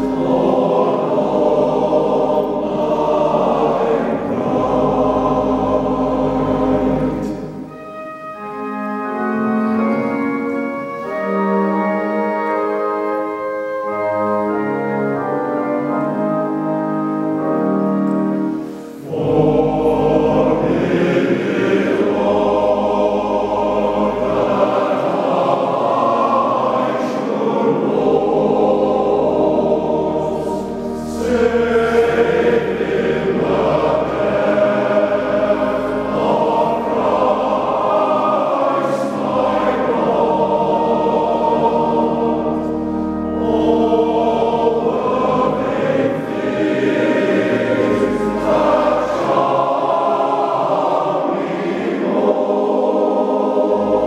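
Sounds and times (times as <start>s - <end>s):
male choir singing in harmony: 0.0s - 54.0s.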